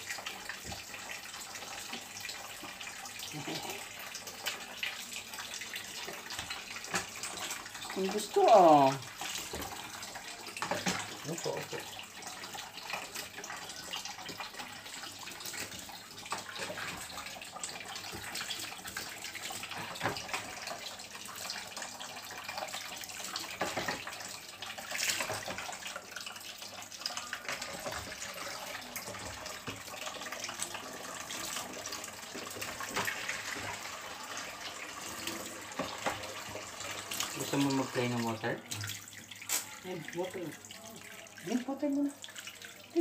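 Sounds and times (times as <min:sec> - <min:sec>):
water pouring into a metal sink: 0:00.0 - 0:43.0.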